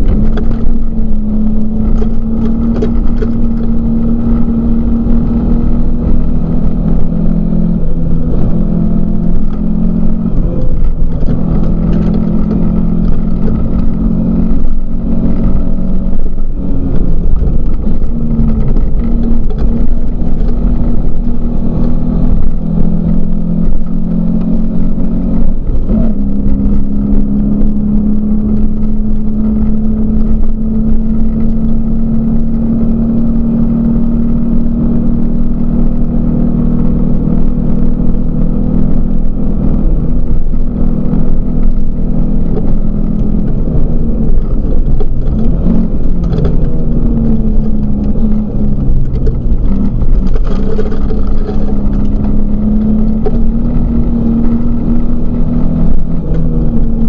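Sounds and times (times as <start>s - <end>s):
car engine running hard: 0.0s - 57.0s
gravel and road noise: 0.0s - 57.0s.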